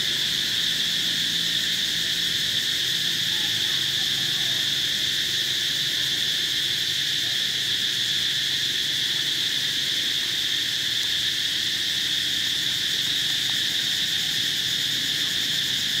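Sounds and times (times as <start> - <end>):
insects buzzing chorus: 0.0 - 16.0.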